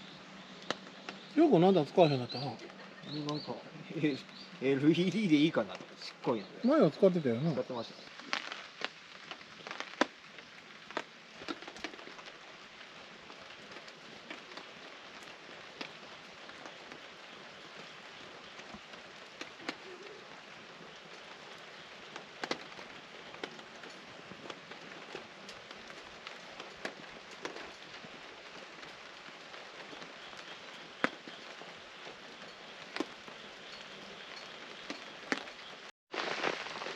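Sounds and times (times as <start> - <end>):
rain pattering on a tarp: 0.0 - 36.9.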